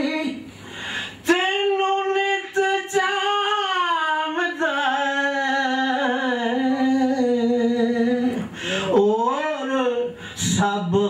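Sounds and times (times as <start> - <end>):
man singing unaccompanied: 0.0 - 0.5, 1.2 - 11.0.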